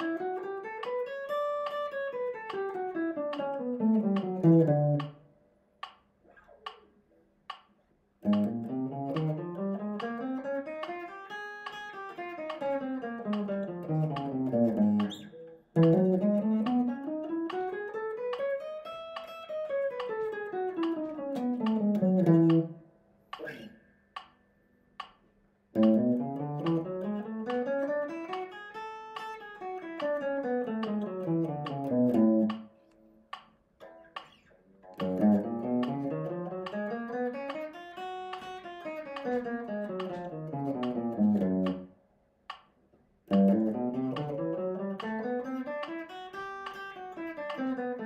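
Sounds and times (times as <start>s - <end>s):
electric guitar playing scales: 0.0s - 5.2s, 8.2s - 22.8s, 25.8s - 32.8s, 33.8s - 41.9s, 43.3s - 48.0s.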